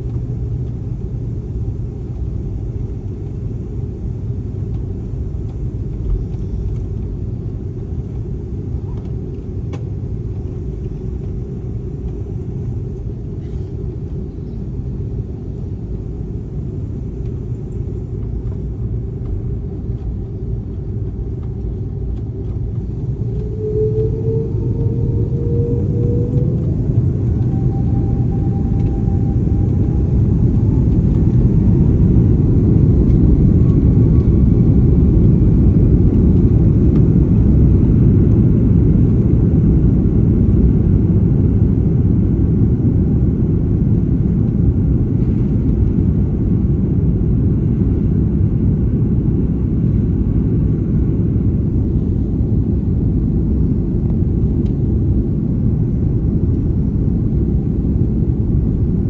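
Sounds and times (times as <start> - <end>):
faint rising engine whine: 0.0 - 59.0
jet engines deep rumble: 0.0 - 59.0.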